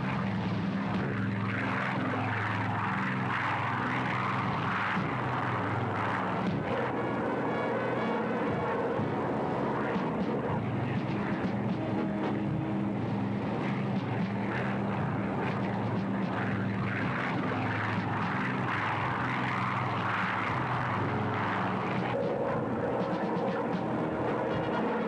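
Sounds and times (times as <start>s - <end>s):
propeller plane engines droning: 0.0s - 25.0s
rushing noise: 0.0s - 25.0s.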